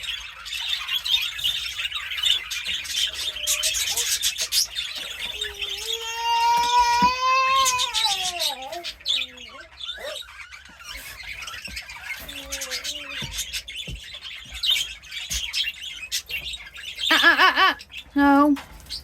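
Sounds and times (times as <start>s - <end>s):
caged birds chirping and squawking: 0.0s - 19.0s.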